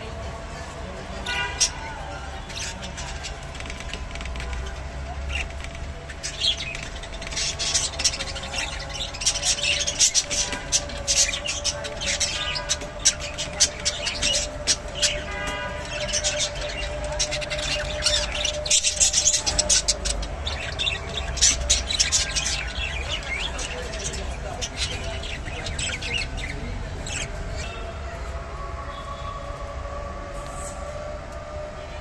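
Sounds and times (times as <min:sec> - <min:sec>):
budgerigars chattering: 0:01.5 - 0:27.7.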